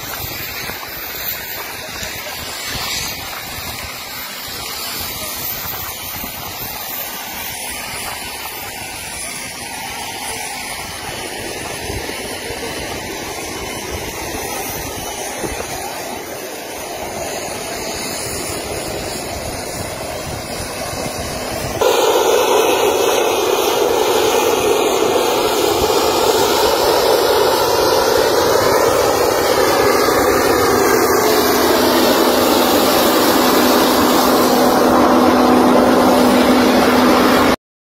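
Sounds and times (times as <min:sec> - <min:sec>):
aircraft turbine engines running: 0:00.0 - 0:37.6
high turbine whine: 0:00.0 - 0:37.6.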